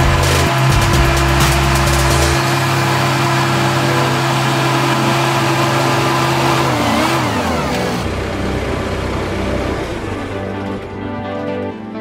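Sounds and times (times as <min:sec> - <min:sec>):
dozer diesel engine running: 0:00.0 - 0:12.0.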